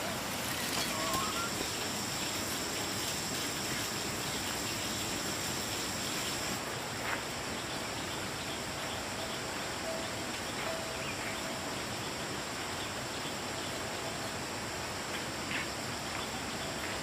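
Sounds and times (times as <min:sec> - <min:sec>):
insects droning: 0:00.0 - 0:17.0
steady hiss: 0:00.0 - 0:17.0.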